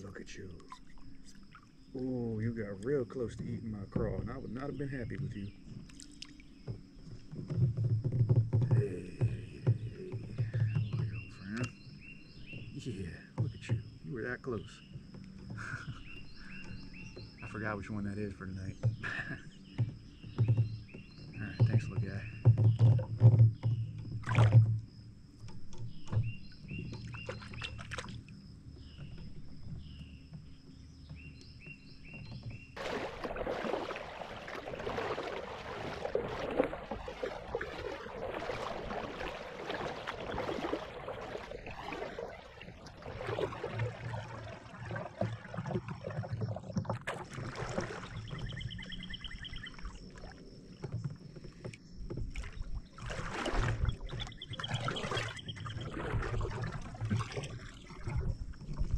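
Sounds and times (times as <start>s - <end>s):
kayak paddle splashing water: 0.0s - 58.9s.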